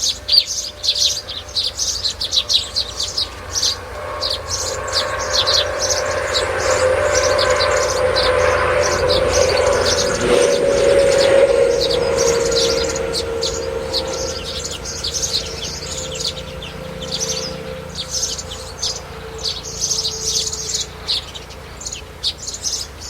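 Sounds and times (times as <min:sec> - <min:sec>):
birds chirping: 0:00.0 - 0:23.0
steady humming tone: 0:00.0 - 0:23.0.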